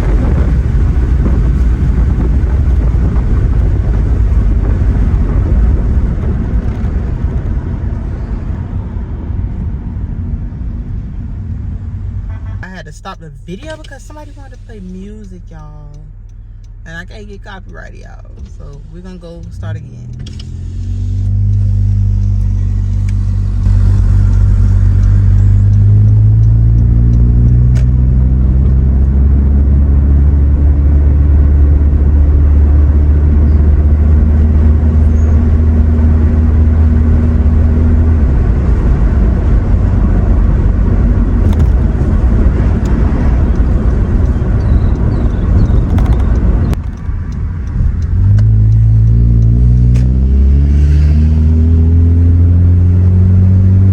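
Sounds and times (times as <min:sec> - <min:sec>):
loud low exhaust drone: 0:00.0 - 0:53.9.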